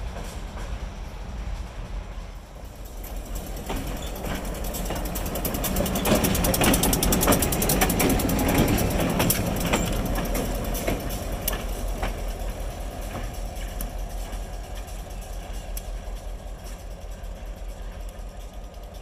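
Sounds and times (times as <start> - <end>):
locomotive engine drone: 0.0 - 19.0
wheels clicking over rail joints: 2.5 - 19.0.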